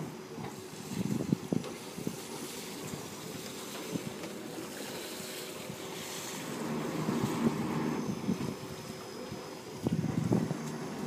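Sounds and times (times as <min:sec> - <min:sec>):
wind noise on microphone: 0:00.0 - 0:04.2, 0:05.6 - 0:11.0
boat diesel engine running: 0:00.0 - 0:11.0
propeller churning water: 0:00.0 - 0:11.0.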